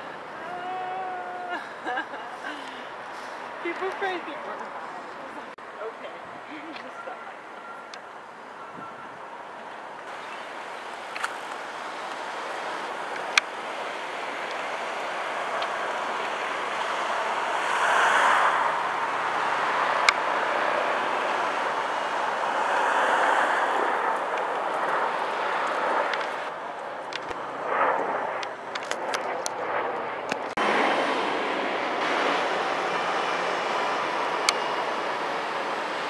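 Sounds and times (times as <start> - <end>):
helicopter passing overhead: 0.0 - 36.0.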